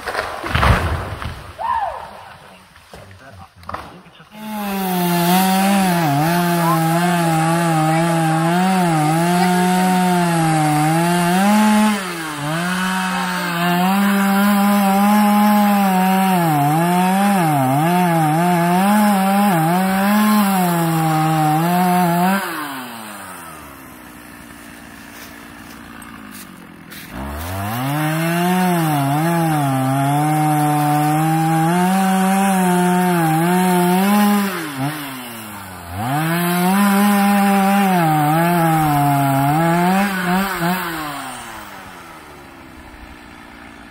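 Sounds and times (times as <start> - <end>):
chainsaw cutting wood: 0.0 - 1.5, 3.6 - 43.9.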